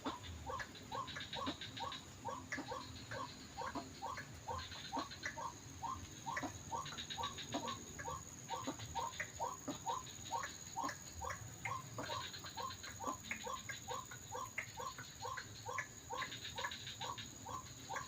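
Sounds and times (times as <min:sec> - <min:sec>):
waterhen calls: 0:00.0 - 0:18.0.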